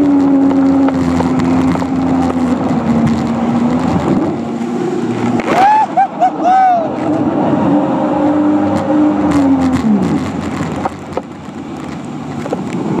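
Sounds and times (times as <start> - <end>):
jet ski engine running: 0.0 - 13.0
rushing water: 0.0 - 13.0
wind: 0.0 - 13.0.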